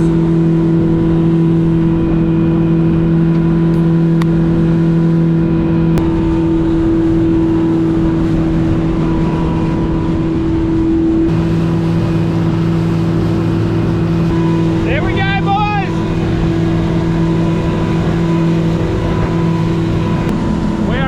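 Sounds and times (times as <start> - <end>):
engine droning: 0.0 - 21.0
rushing rumble: 0.0 - 21.0.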